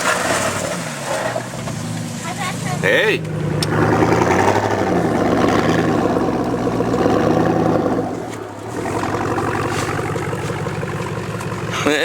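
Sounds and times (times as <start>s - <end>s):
pickup engine under load: 0.0s - 12.0s.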